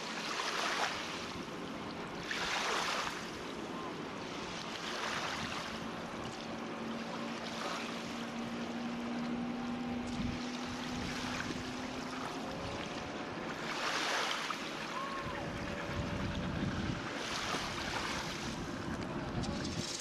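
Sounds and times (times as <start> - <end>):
water splashing along boat hull: 0.0 - 20.0.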